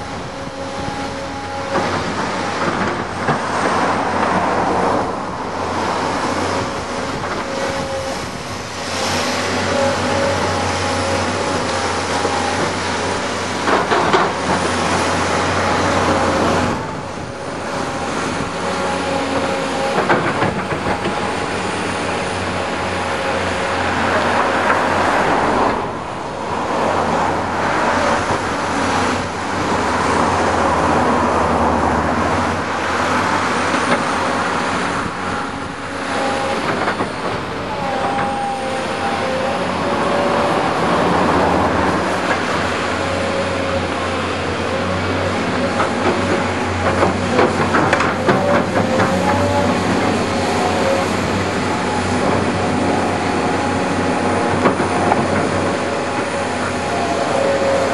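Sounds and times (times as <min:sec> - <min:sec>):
excavator diesel engines droning: 0:00.0 - 0:57.9.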